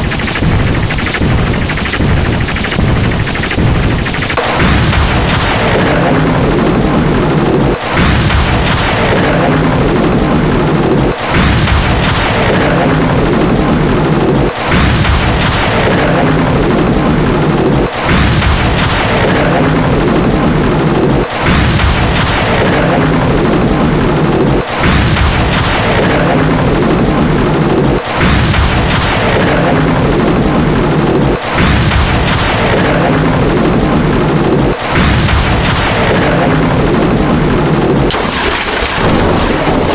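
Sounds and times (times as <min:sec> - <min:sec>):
heavy thunder rumble: 0:00.0 - 0:39.9
lightning crack: 0:00.0 - 0:39.9.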